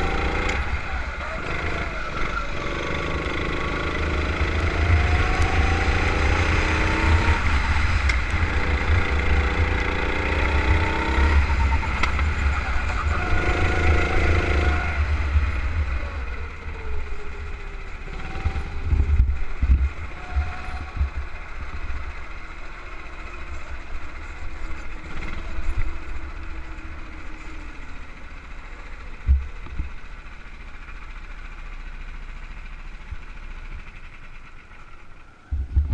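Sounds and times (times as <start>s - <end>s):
go-kart engine revving: 0.0s - 35.9s.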